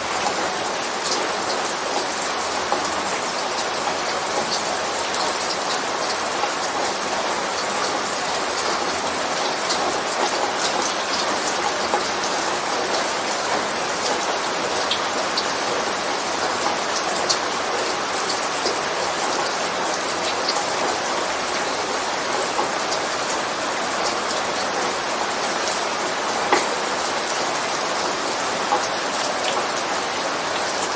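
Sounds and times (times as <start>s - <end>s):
rain hiss: 0.0s - 30.9s
raindrops pattering: 0.0s - 30.9s.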